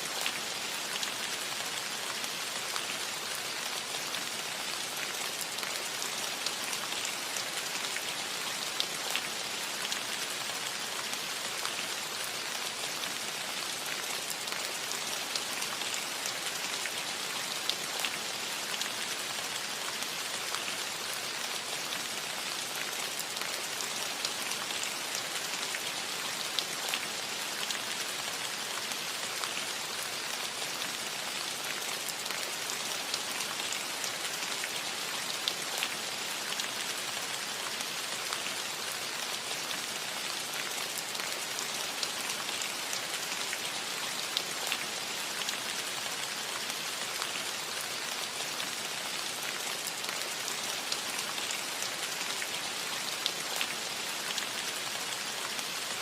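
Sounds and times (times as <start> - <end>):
rain on a metal roof: 0.0 - 56.0.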